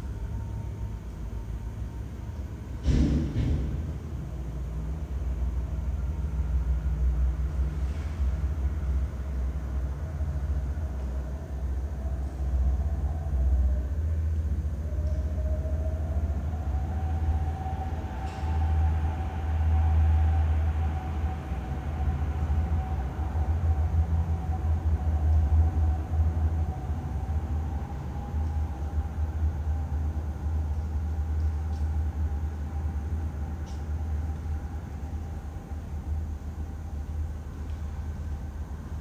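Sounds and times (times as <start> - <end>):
faint wavering hum: 0.0 - 39.0.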